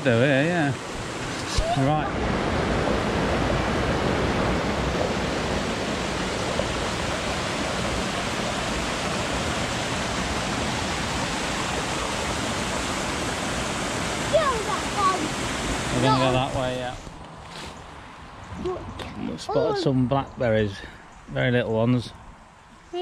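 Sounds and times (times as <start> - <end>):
stream rushing: 0.0 - 18.9.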